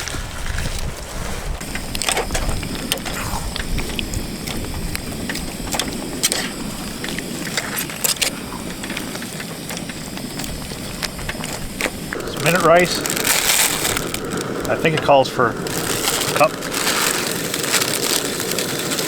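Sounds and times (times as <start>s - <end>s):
camp cookware clinking and scraping: 1.6s - 19.0s.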